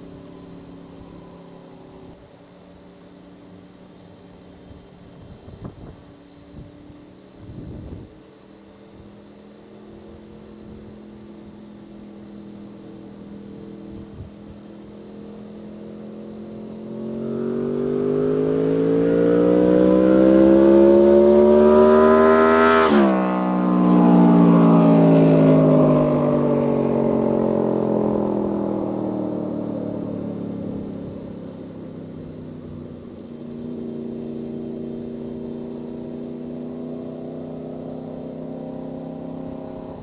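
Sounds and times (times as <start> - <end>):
motorcycle engine passing at speed: 0.0 - 40.0.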